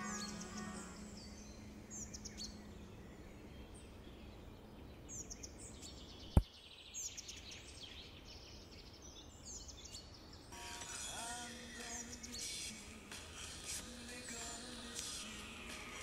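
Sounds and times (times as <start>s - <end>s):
birds chirping: 0.0s - 16.0s
low background hiss: 0.0s - 16.0s.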